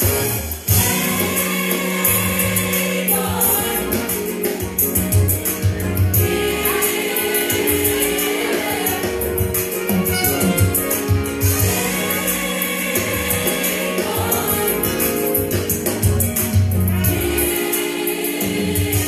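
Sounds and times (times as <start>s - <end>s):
choir singing over a beat: 0.0s - 19.0s.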